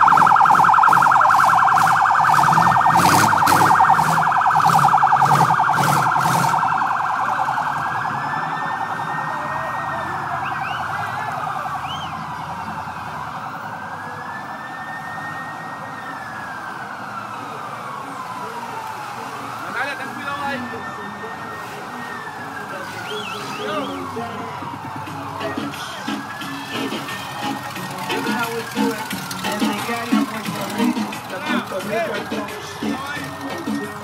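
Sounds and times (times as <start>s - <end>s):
electronic siren: 0.0s - 34.0s.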